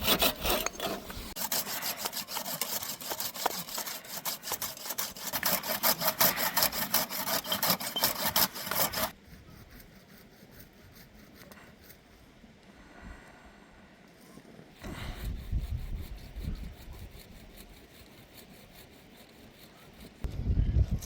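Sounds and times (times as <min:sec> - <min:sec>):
hand saw cutting wood: 0:00.0 - 0:12.0, 0:14.8 - 0:20.3.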